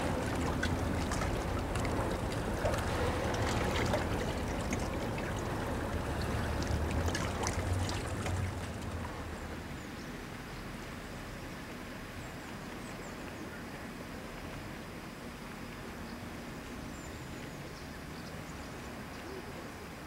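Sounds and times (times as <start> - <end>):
low steady rumble: 0.0 - 20.0
river water lapping and splashing: 0.0 - 20.0.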